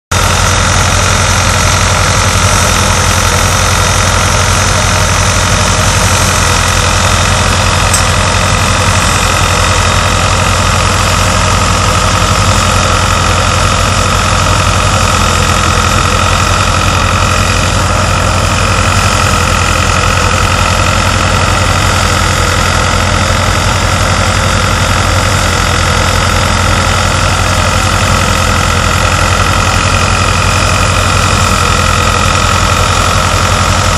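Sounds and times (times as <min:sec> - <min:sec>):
high machine whine: 0:00.1 - 0:33.9
thresher drone: 0:00.1 - 0:33.9.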